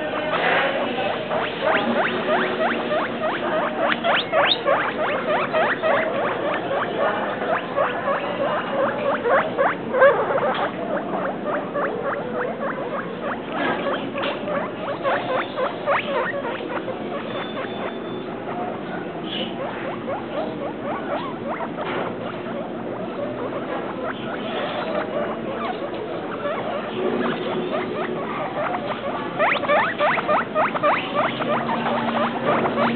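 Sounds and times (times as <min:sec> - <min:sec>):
guinea pigs squeaking: 0:00.0 - 0:32.9.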